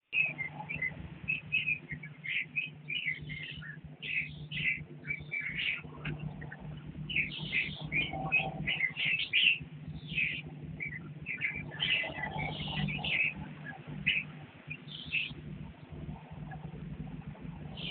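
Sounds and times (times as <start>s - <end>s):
birds chirping: 0.0s - 17.9s
low hum: 0.1s - 17.9s.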